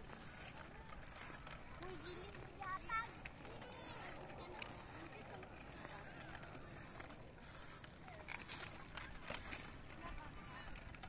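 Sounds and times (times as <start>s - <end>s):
bicycle rolling over rough asphalt: 0.0s - 11.0s.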